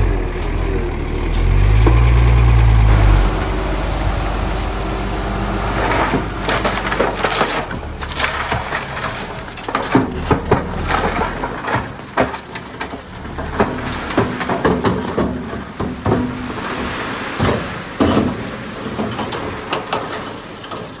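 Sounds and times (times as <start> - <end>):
low engine rumble: 0.0 - 20.7
breaking wood and trash cracking: 0.0 - 21.0.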